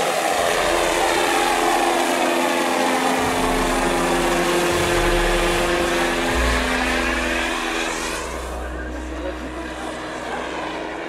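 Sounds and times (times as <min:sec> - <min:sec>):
model helicopter flying past: 0:00.0 - 0:11.0.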